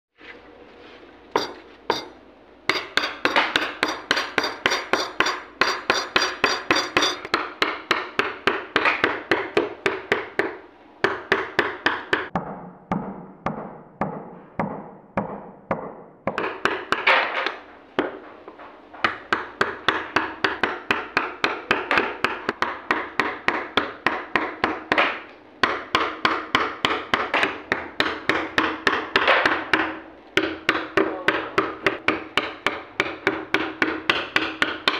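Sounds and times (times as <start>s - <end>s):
mallet tapping chisel into wood: 1.4s - 34.9s.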